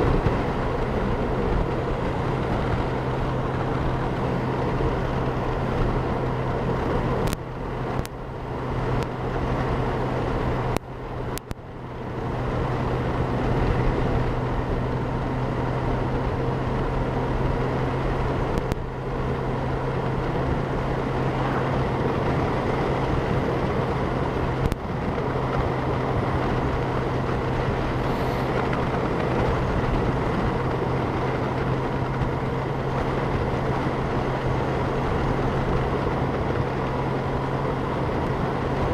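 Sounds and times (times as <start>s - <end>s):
motorcycle engine hum: 0.0s - 38.9s
wind noise on microphone: 0.0s - 38.9s.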